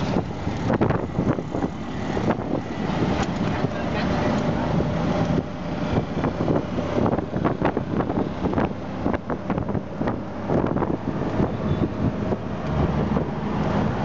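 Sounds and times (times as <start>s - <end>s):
auto-rickshaw engine and road noise: 0.0s - 14.0s
wind across microphone: 0.0s - 14.0s.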